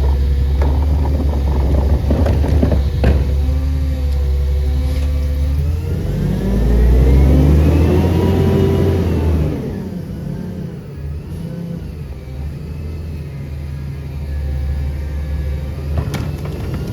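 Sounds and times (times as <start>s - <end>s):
garbage truck engine revving: 0.0s - 16.9s.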